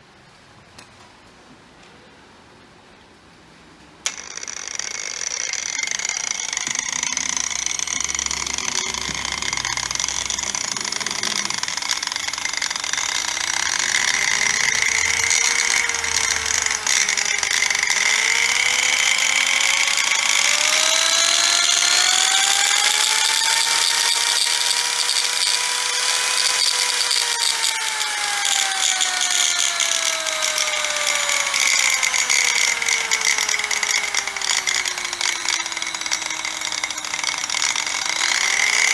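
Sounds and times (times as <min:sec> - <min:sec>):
angle grinder motor whine: 0:04.0 - 0:38.9.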